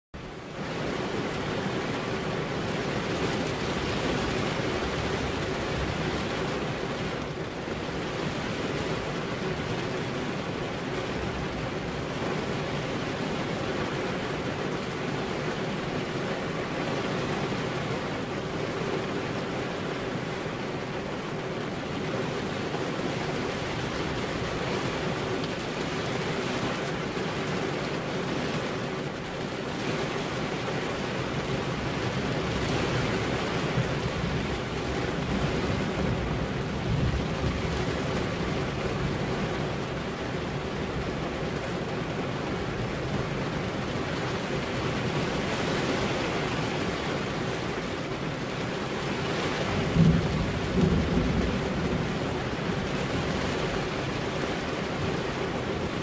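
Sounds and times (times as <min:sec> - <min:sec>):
steady rain falling: 0:00.1 - 0:56.0.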